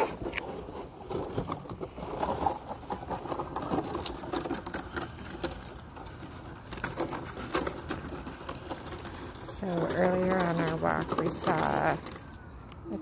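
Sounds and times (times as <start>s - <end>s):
cardboard knocks and rattles: 0.0s - 12.2s
cardboard scraping over asphalt: 0.0s - 13.0s.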